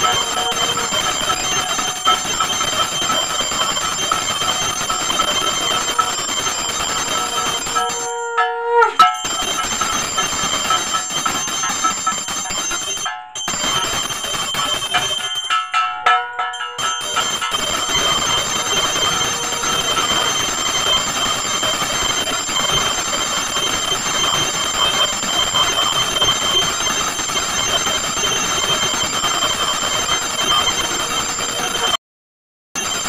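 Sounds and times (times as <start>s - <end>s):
hand bell ringing rapidly: 0.0s - 8.4s, 9.0s - 32.0s.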